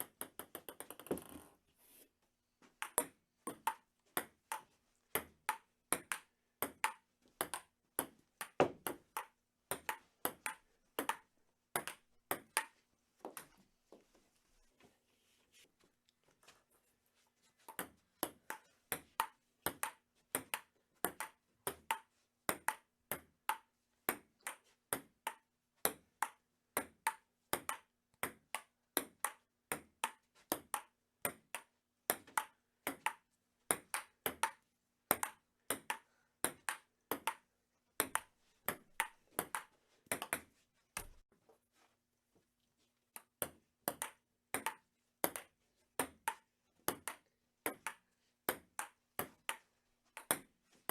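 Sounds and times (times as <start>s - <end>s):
ping pong ball clicking on paddles: 0.0s - 1.5s, 2.8s - 13.5s, 17.7s - 41.2s, 43.2s - 50.5s.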